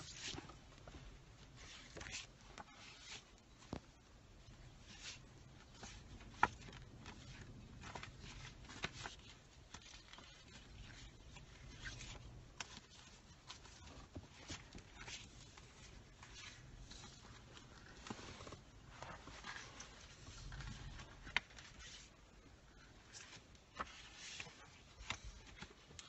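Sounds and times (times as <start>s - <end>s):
photo prints rustling and clicking: 4.8s - 26.0s.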